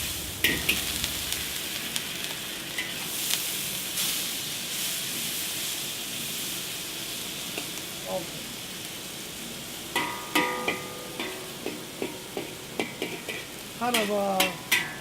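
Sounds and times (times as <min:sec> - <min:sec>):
noodles sizzling in oil: 0:00.0 - 0:15.0.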